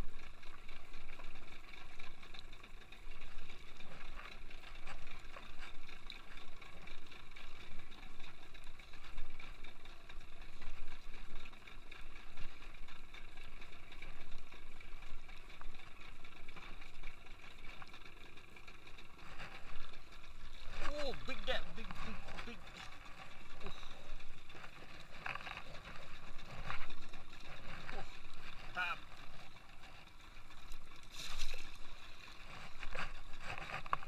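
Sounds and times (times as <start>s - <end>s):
boat engine running: 0.0s - 34.0s
wind or water noise: 0.0s - 34.0s.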